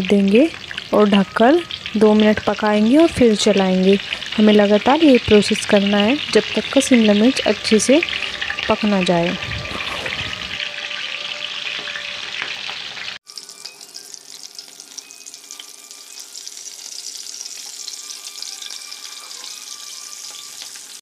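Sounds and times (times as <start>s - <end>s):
peppers sizzling in oil: 0.0s - 21.0s.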